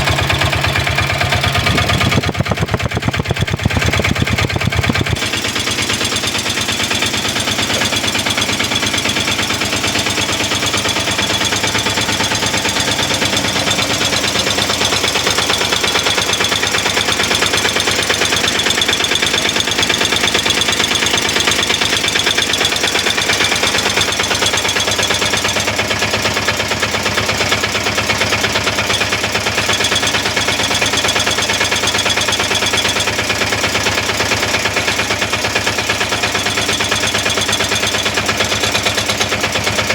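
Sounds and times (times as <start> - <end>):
auto-rickshaw diesel engine clattering: 0.0 - 39.9.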